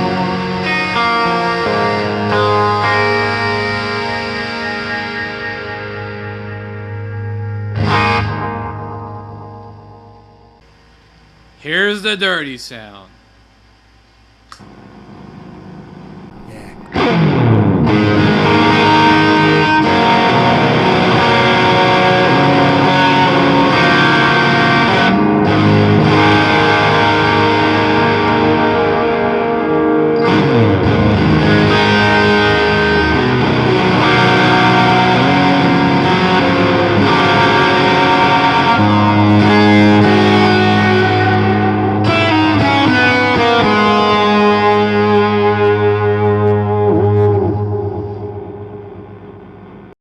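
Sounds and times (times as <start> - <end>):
distorted electric guitar: 0.0 - 10.7, 14.5 - 50.0.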